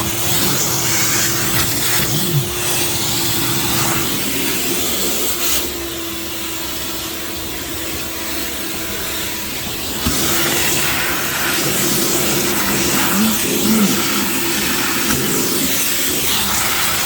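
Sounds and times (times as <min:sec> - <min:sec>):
wet dry vacuum running: 0:00.0 - 0:17.0.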